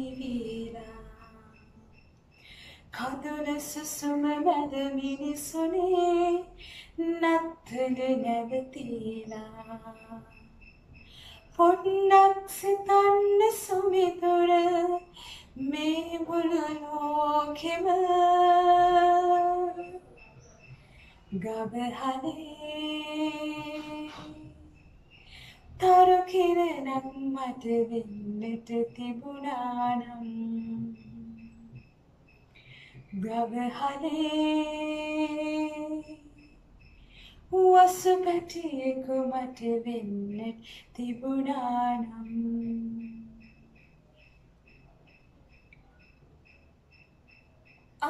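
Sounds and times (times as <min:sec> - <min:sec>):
woman singing unaccompanied: 0:00.0 - 0:01.8, 0:02.9 - 0:20.2, 0:21.3 - 0:31.9, 0:33.0 - 0:36.6, 0:37.3 - 0:43.6.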